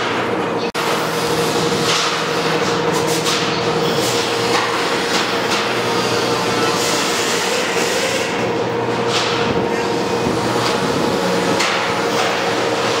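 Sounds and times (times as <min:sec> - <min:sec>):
construction machinery drone: 0:00.0 - 0:13.0.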